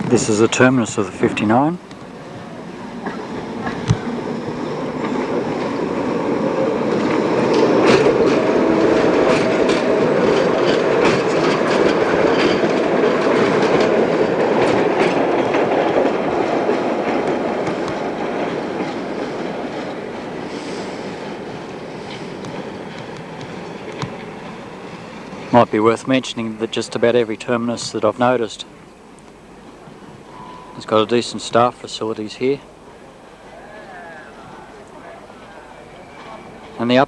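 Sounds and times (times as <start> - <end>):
tram running on rails: 0.0 - 37.0
tram wheels clattering over rail joints: 0.0 - 37.0.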